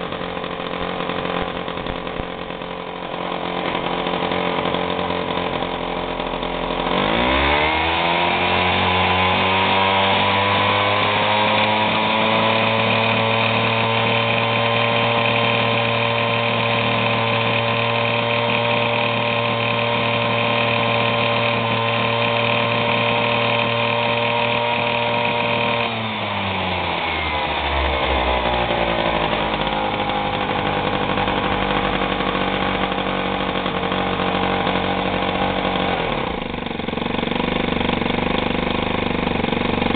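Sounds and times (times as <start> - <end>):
moped two-stroke engine revving: 0.0 - 39.9.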